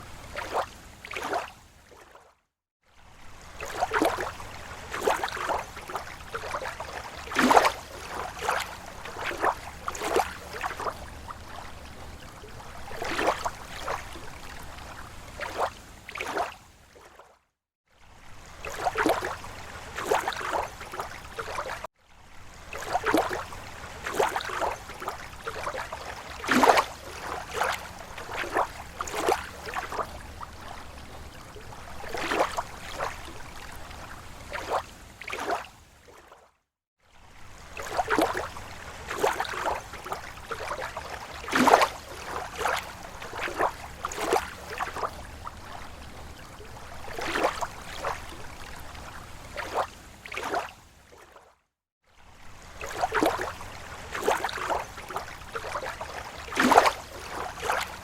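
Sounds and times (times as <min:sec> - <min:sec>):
small waves lapping shore: 0:00.0 - 0:58.0.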